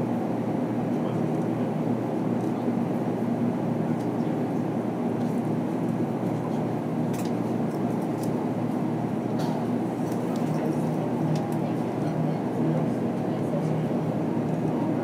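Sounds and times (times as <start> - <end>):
train low hum and rumble: 0.0 - 15.0.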